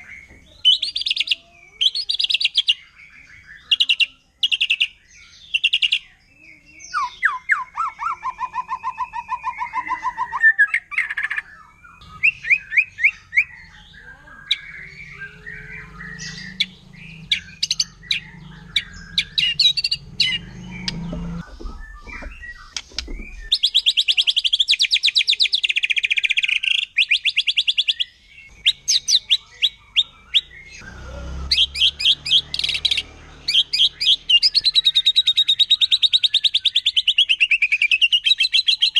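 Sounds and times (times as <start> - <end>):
bird singing rapid trills: 0.0 - 38.9.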